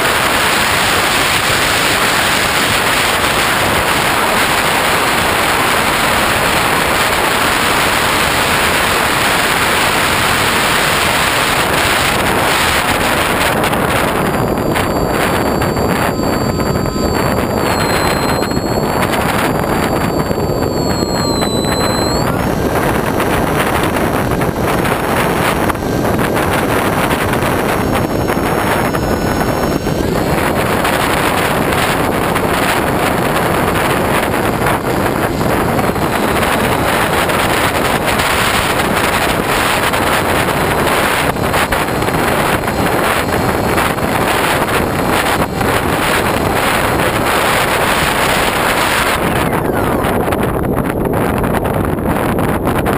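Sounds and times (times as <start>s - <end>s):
faint high whine: 0.0s - 52.1s
loud wind rush: 0.0s - 52.9s.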